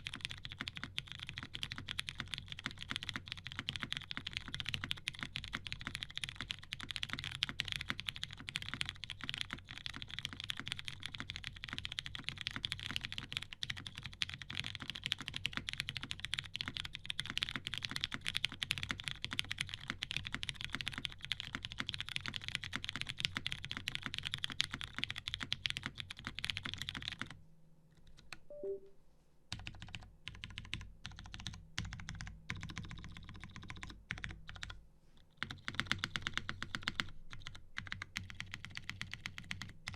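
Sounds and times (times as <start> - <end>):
mechanical keyboard typing: 0.0 - 27.4, 29.5 - 34.8, 35.4 - 39.9.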